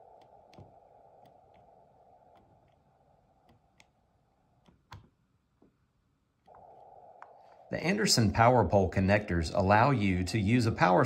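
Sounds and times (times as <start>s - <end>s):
faint radio receiver hiss: 0.0s - 11.0s.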